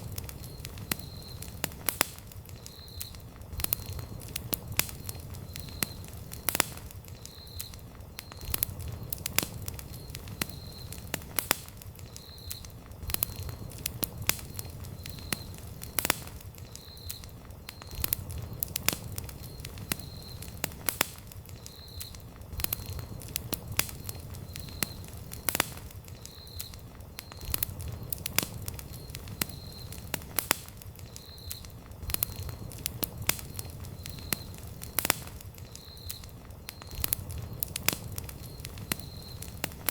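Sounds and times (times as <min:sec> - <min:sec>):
campfire crackling and popping: 0:00.0 - 0:39.9
rush of burning flames: 0:00.0 - 0:39.9.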